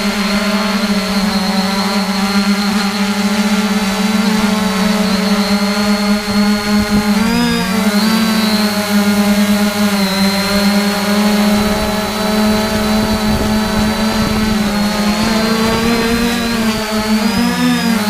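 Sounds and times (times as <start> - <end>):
drone propellers buzzing: 0.0 - 18.0.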